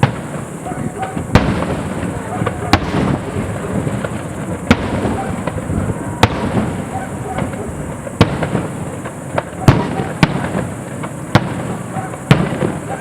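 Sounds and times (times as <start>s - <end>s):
crackle of small firework pops: 0.0s - 6.8s, 7.4s - 13.0s
firework shells bursting: 0.0s - 13.0s.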